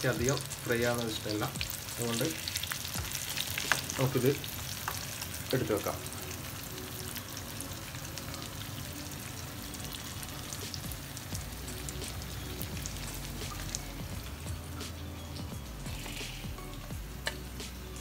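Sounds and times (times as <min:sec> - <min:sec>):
fish frying in oil: 0:00.0 - 0:18.0.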